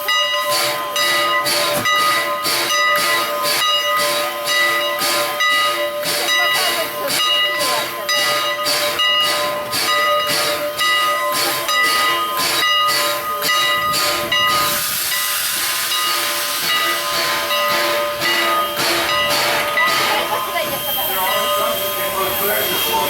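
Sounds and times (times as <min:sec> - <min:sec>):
rush of escaping steam: 0:00.0 - 0:23.0
steam locomotive hissing in pulses: 0:00.0 - 0:23.0.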